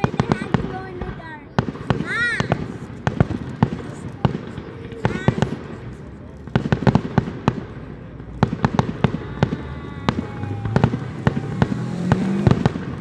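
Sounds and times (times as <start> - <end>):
fireworks shells bursting: 0.2 - 13.0.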